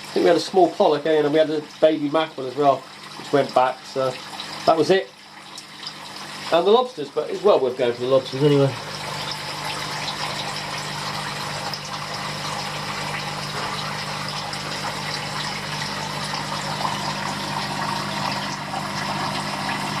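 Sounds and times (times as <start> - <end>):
low mechanical hum: 0.0 - 20.0
running water rushing: 0.0 - 20.0.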